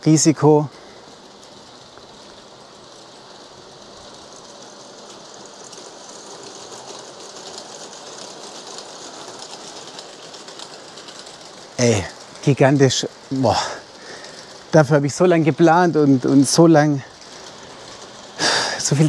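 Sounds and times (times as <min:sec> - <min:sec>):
model train wheels clicking: 0:00.0 - 0:19.0.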